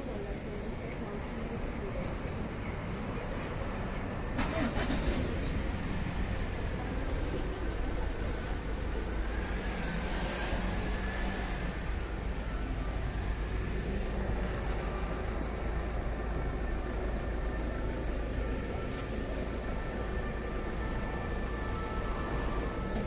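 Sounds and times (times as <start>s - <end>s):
hum of vehicles: 0.0s - 23.0s
low traffic rumble: 0.0s - 23.0s.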